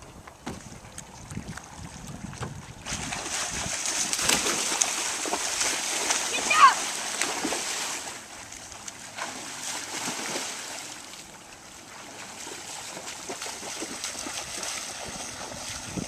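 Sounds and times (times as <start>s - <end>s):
swimmer splashing: 2.8s - 16.0s.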